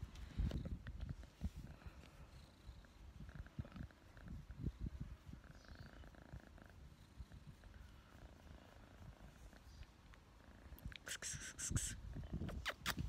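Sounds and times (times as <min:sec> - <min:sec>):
kitten purring: 0:00.5 - 0:11.0.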